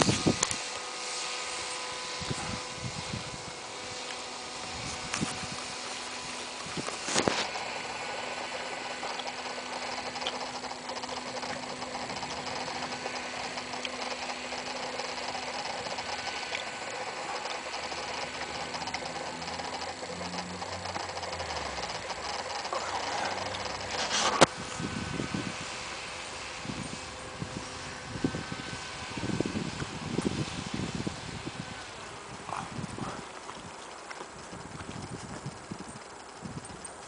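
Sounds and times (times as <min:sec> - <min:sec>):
small propeller motor buzzing: 0:00.0 - 0:37.0.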